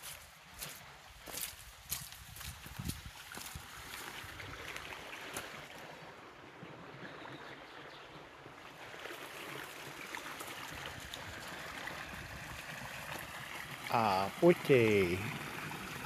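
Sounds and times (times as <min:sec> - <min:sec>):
stream rushing water: 0:02.4 - 0:16.0.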